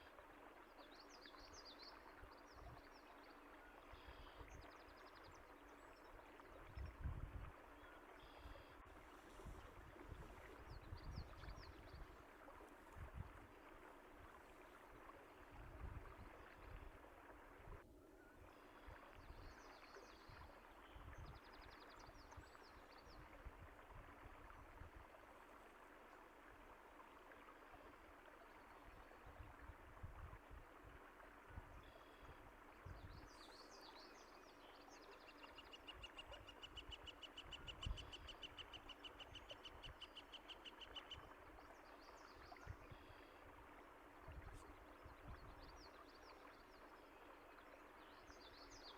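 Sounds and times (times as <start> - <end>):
faint flowing water: 0.0 - 48.9.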